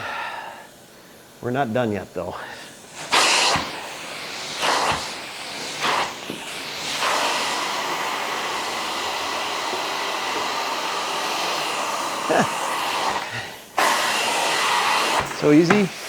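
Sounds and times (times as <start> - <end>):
carpet extractor suction and spray: 0.0 - 16.0.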